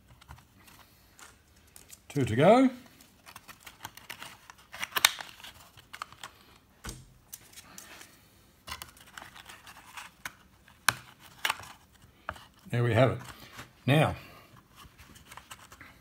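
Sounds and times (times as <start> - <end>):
plastic crinkling and clicking: 0.0 - 2.2, 2.8 - 13.7.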